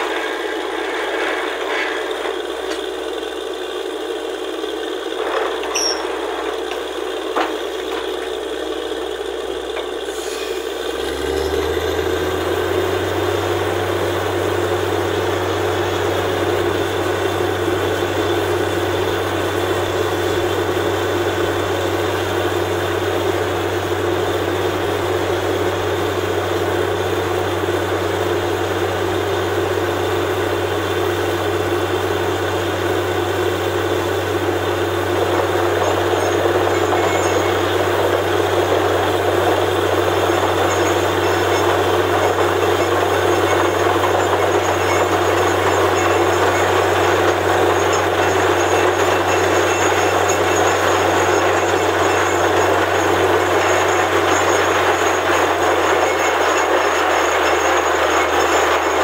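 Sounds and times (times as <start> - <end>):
drilling rig rattling and grinding: 0.0 - 59.0.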